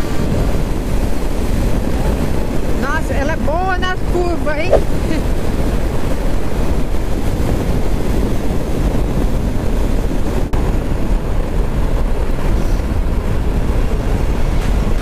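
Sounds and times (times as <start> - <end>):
road noise: 0.0 - 15.0
wind rush on microphone: 0.0 - 15.0.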